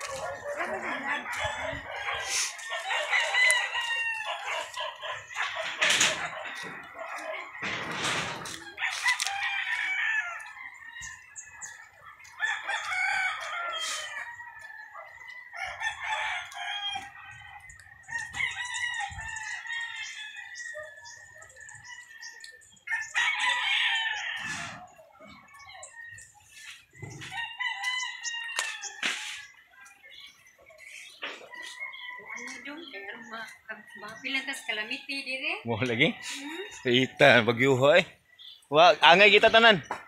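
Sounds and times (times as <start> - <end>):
roosters crowing: 0.0 - 40.0.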